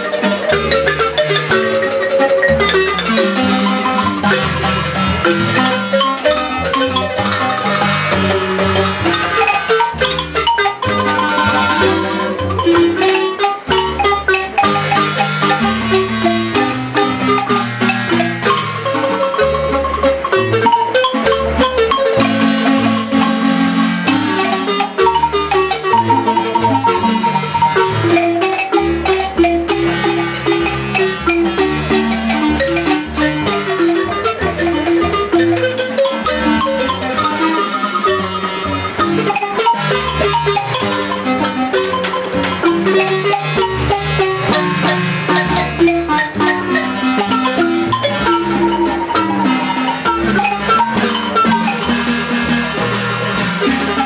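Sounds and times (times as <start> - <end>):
marimba played with mallets: 0.0 - 54.0
plucked double bass: 0.0 - 54.0.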